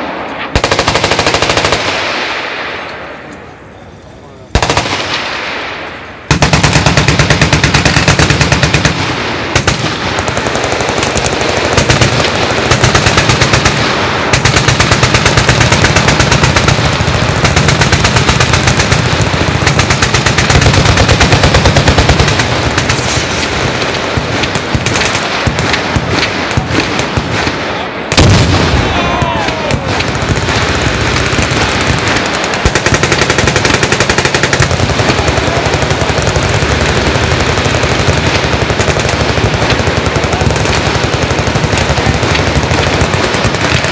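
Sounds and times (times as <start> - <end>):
machine guns firing automatic: 0.0 - 2.4, 4.5 - 5.6, 6.3 - 43.9.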